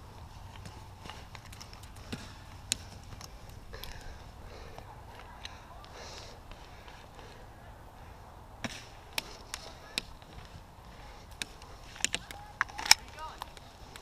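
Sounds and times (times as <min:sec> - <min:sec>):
faint steady background noise: 0:00.0 - 0:14.0.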